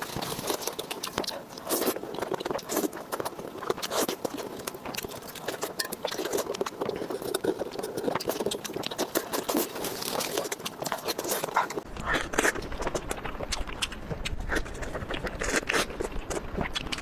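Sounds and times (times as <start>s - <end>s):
crunchy food chewing: 0.0s - 17.0s
wet mouth sounds: 0.0s - 17.0s.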